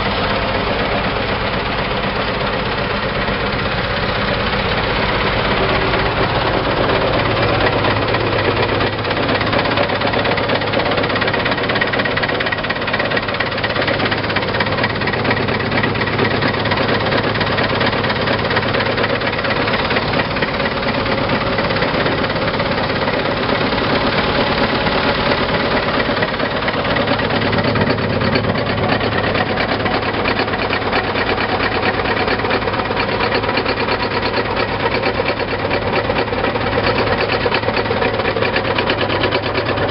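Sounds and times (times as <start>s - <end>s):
engine idling with fast pulse: 0.0s - 39.9s.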